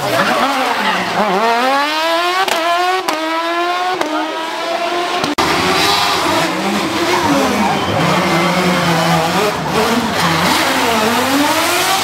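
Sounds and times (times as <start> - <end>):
rally car engine revving hard: 0.0 - 12.0.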